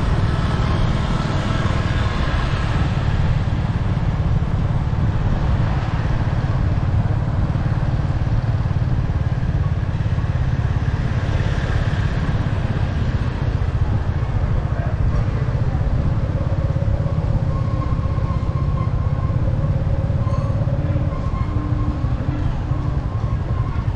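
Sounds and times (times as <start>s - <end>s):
vehicle engine and road noise: 0.0s - 23.9s
wind rumble on microphone: 0.0s - 23.9s.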